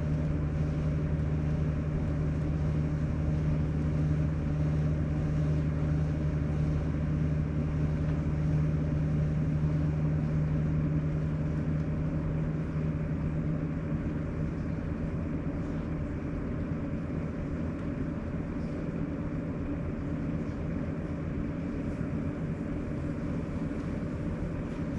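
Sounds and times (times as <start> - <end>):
air conditioner droning: 0.0 - 24.9.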